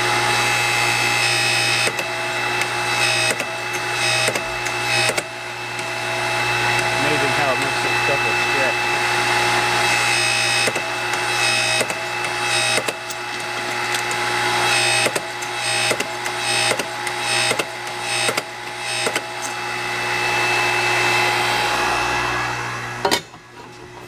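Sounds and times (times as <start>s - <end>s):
electric motor running: 0.0s - 24.0s.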